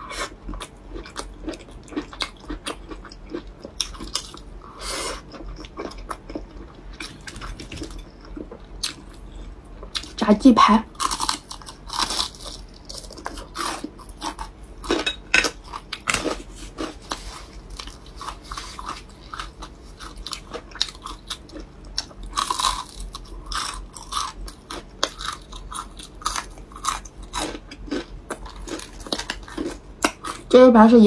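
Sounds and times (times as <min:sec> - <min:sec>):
crunchy chewing: 0:00.0 - 0:10.2, 0:10.9 - 0:30.6.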